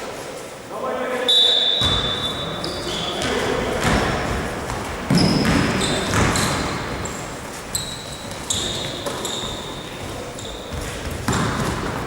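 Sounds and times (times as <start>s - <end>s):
sneakers squeaking on floor: 1.2s - 12.0s
basketball bouncing: 1.8s - 12.0s.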